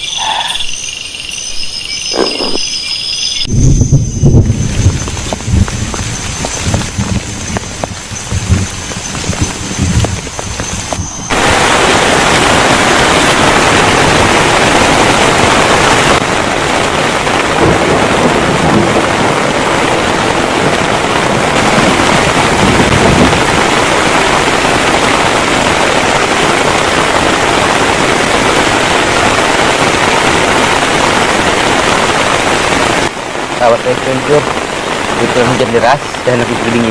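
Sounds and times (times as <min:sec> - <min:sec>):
heavy rain pouring: 0:03.4 - 0:36.9.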